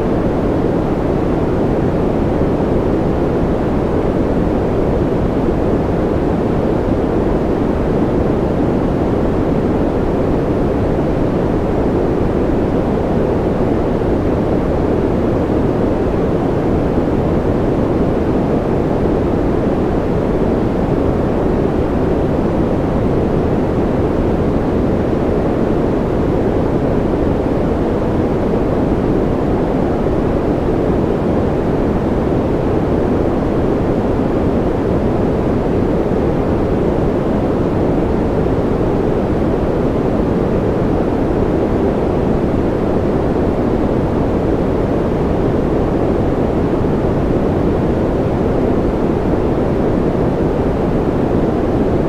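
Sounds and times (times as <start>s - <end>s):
white noise: 0.0s - 52.0s.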